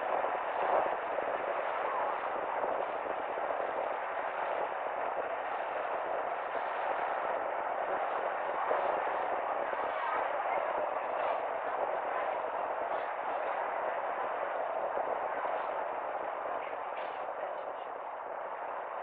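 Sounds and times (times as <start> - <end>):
car road and tyre noise: 0.0 - 19.0.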